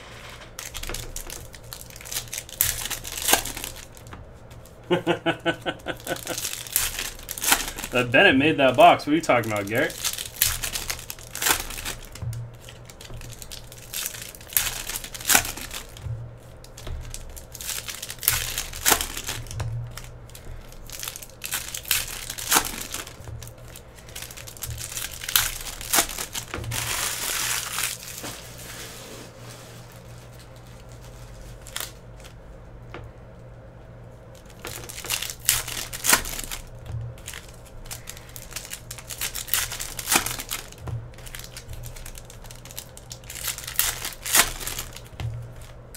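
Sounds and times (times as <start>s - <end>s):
foil wrappers crinkling and tearing: 0.1s - 32.4s, 34.3s - 45.9s.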